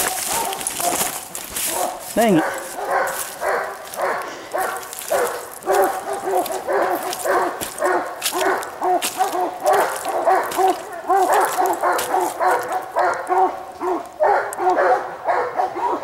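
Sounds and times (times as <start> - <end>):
dog barking: 0.0 - 16.0.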